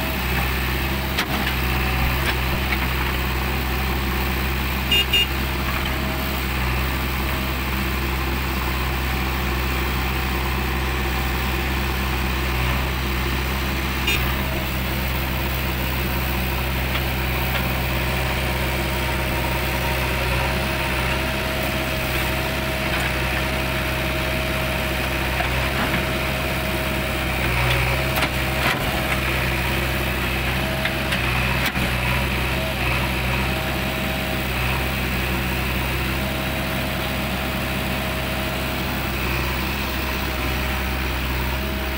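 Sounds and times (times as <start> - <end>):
backhoe digging soil: 0.0 - 8.3, 9.0 - 41.9
diesel engine running: 0.0 - 41.9.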